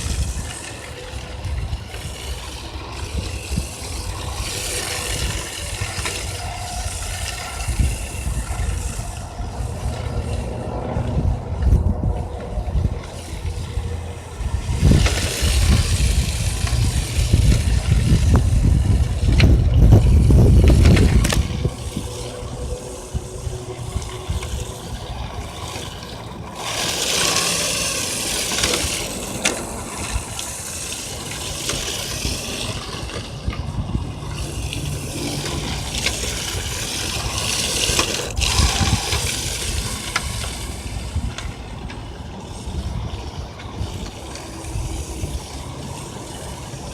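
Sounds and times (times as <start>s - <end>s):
electric motor whining: 0.0s - 46.9s
tires scrubbing on pavement: 0.0s - 46.9s
wind rumble on microphone: 0.0s - 46.9s.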